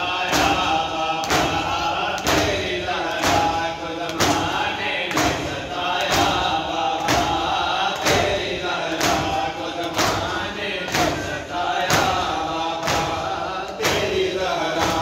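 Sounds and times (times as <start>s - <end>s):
chanted mourning lament: 0.0s - 15.0s
men beating chests in unison: 0.0s - 15.0s.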